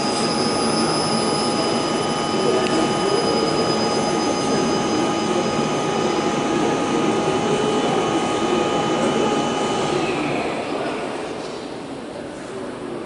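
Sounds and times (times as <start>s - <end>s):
winding engine roar: 0.0s - 10.8s
high machine whine: 0.0s - 12.0s.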